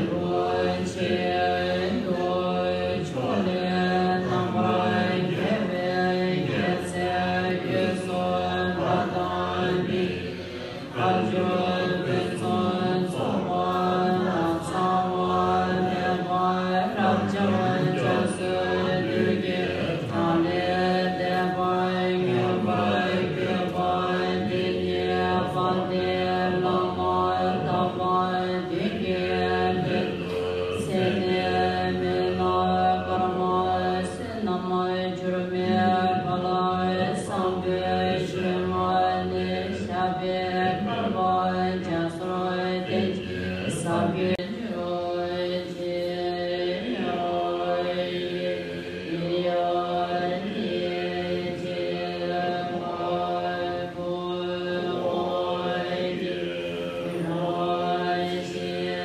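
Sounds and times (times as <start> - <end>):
group chanting together: 0.0 - 59.0.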